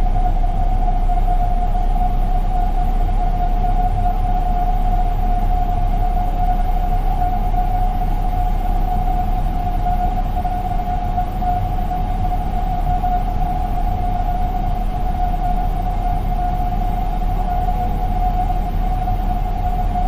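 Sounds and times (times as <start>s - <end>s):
jet engine drone in cabin: 0.0s - 20.0s.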